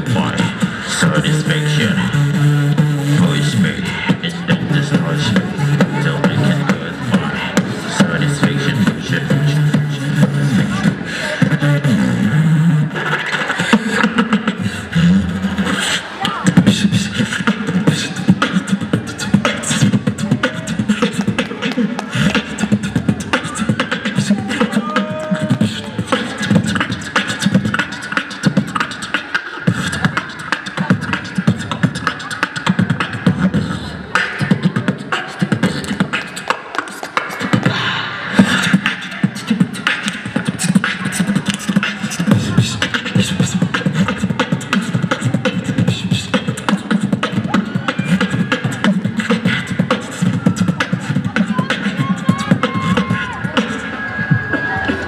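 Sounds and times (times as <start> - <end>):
beatboxers performing through microphones: 0.0 - 55.0.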